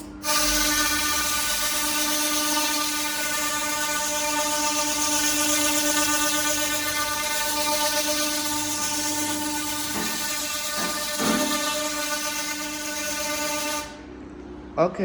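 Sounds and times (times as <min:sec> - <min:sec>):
laser cleaner buzzing hiss: 0:00.2 - 0:14.0.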